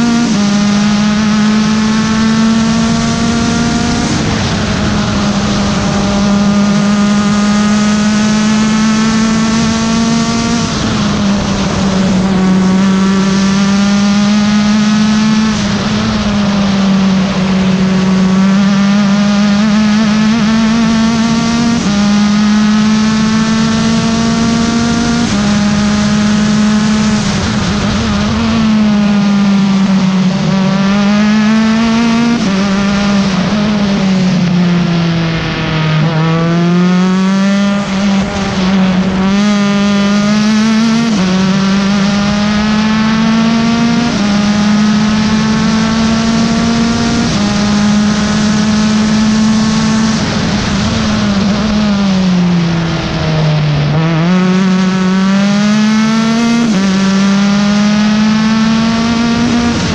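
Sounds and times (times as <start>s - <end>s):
race car engine shifting gears: 0.0s - 59.9s.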